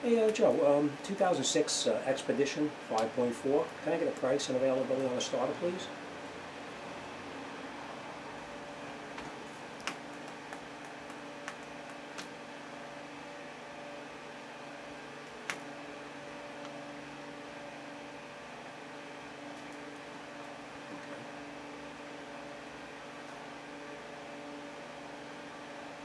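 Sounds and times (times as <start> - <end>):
electric fan humming: 0.0 - 26.0.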